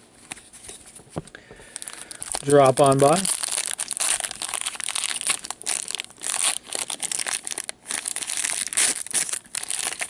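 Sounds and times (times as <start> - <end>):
foil wrapper crinkling: 1.6 - 10.0.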